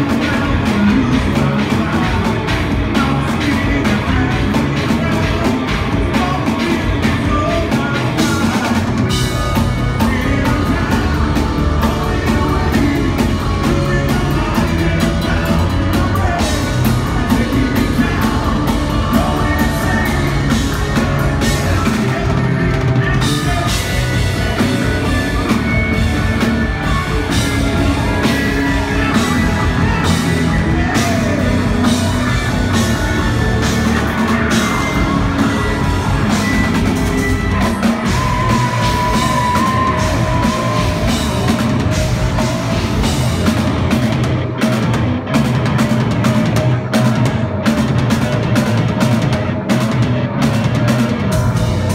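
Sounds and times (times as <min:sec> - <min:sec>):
male lead vocal: 0:00.0 - 0:44.2, 0:46.2 - 0:51.9
metal band playing live: 0:00.0 - 0:51.9.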